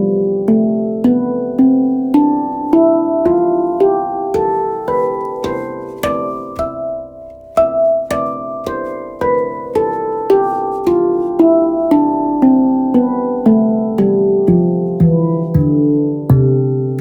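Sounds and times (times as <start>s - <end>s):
handpan notes ringing: 0.0s - 17.0s.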